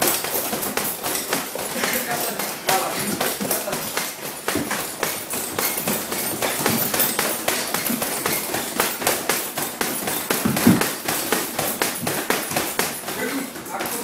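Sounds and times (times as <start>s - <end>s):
feet on wooden ring floor: 0.0s - 14.0s
gloved punches thudding: 0.0s - 14.0s.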